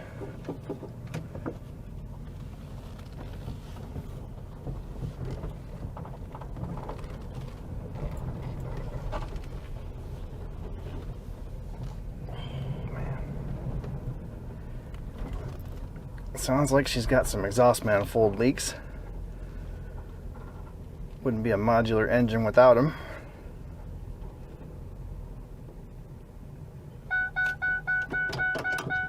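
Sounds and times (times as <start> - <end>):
engine low rumble: 0.0 - 29.0.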